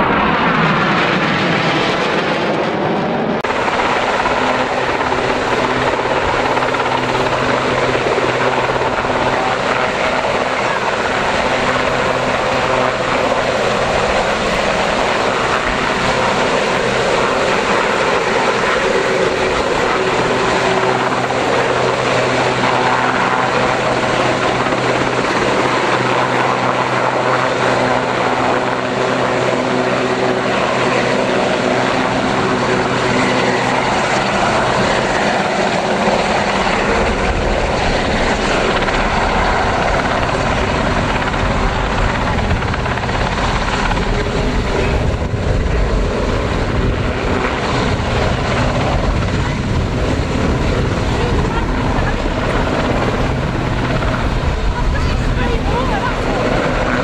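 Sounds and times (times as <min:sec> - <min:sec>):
helicopter engines and rotor: 0:00.0 - 0:57.0.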